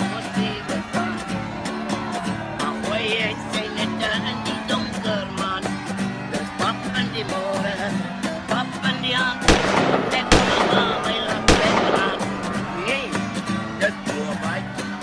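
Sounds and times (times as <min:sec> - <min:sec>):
upbeat country guitar music: 0:00.0 - 0:15.0.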